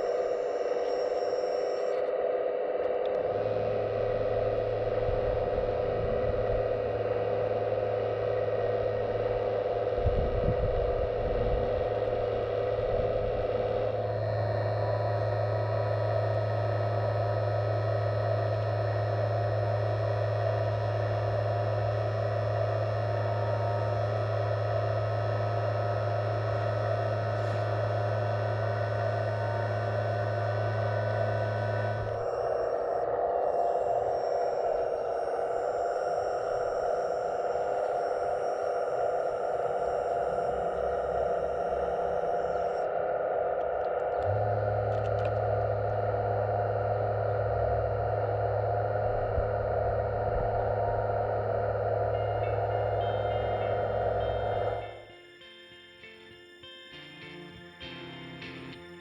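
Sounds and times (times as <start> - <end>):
model excavator mechanical hum: 0.0 - 59.0
low rumble: 2.2 - 54.9.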